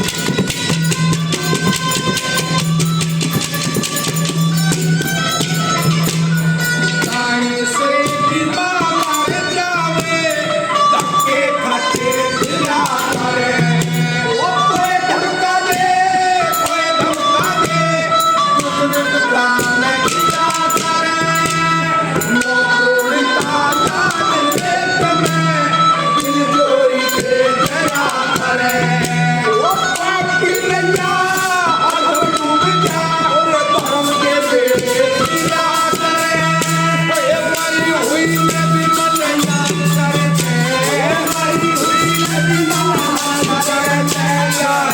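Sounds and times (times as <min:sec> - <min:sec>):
drum percussion: 0:00.0 - 0:44.9
man singing folk song: 0:07.0 - 0:44.9.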